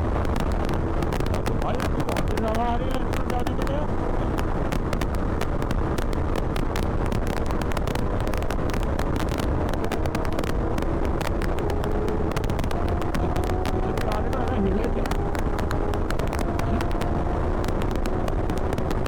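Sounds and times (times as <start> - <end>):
motorcycle engine: 0.0 - 19.0
wind rush on microphone: 0.0 - 19.0.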